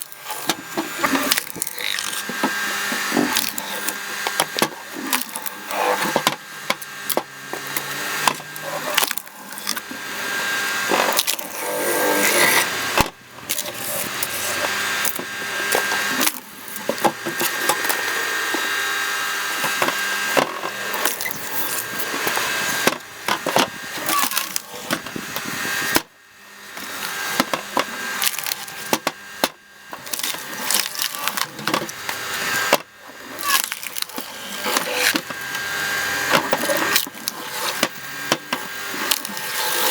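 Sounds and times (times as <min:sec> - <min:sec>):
wood creaking and cracking: 0:00.0 - 0:26.0, 0:26.8 - 0:39.9.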